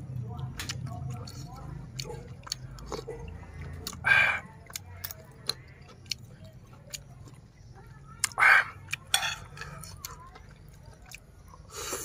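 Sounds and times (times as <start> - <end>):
open-mouthed chewing: 0.1 - 12.0.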